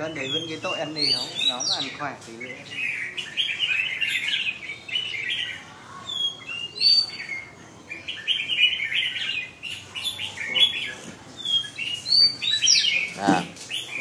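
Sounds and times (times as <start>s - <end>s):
birds chattering warbles: 0.0s - 14.0s.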